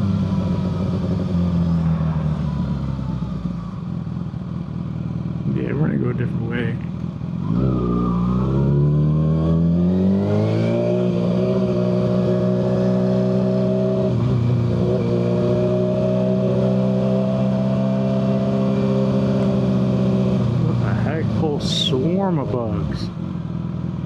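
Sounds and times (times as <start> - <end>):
motorcycle engine revving: 0.0 - 23.8.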